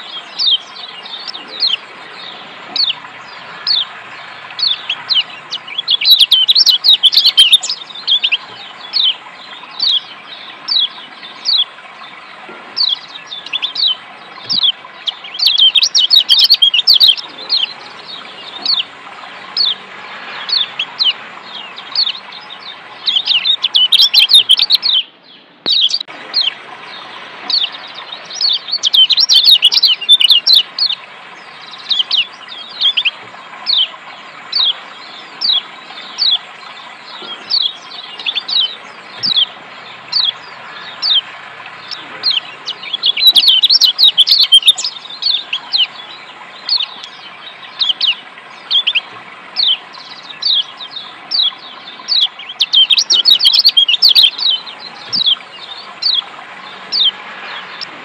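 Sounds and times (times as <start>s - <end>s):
bird chirping: 0.0s - 58.0s
running water: 0.0s - 58.0s.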